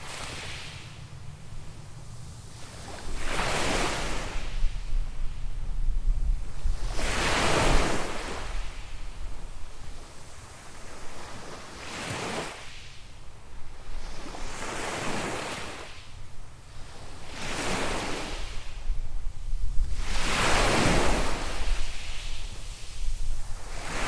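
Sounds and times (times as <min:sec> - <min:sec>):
small waves washing on sand: 0:00.0 - 0:24.0
wind rumble on microphone: 0:00.0 - 0:24.0.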